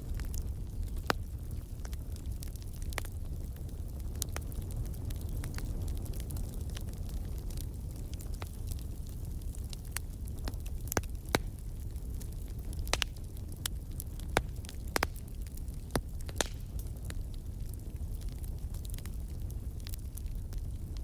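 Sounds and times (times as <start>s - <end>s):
fire pops and snaps: 0.0s - 21.0s
flames rumbling: 0.0s - 21.0s.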